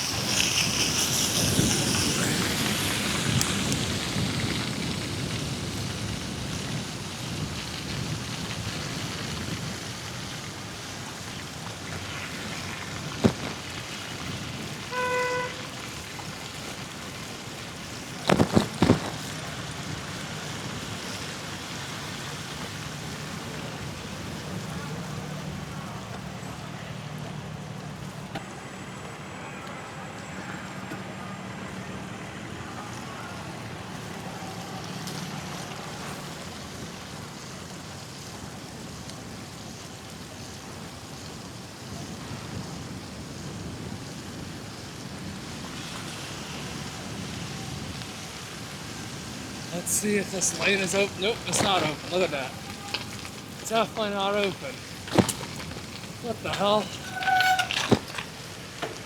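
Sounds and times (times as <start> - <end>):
wet tyre hiss and wind: 0.0 - 59.0.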